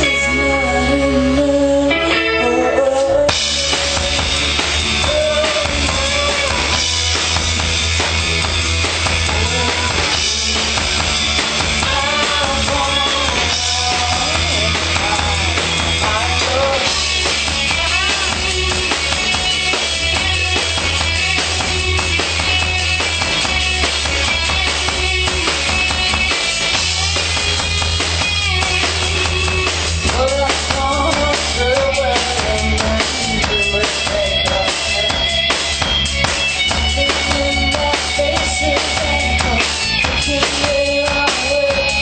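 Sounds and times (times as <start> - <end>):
drums and cymbals: 0.0 - 42.0
rock band playing live: 0.0 - 42.0.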